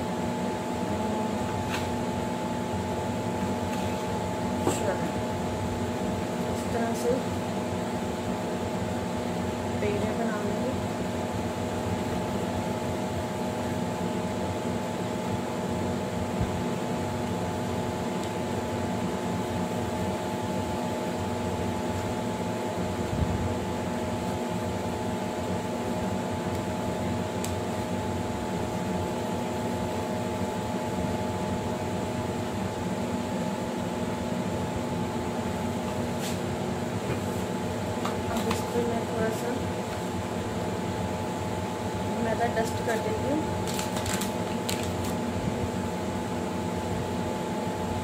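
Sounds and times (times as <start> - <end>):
appliance humming: 0.0 - 48.0.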